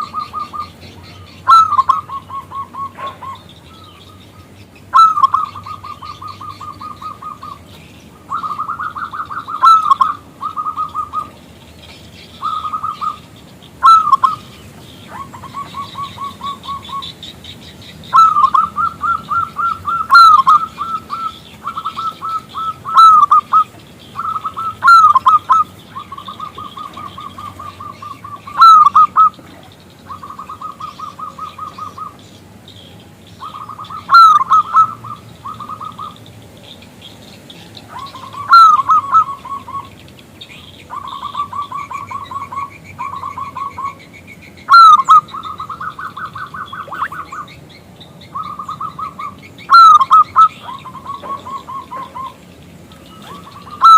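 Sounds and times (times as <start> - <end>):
dove cooing trills: 0.0 - 53.9.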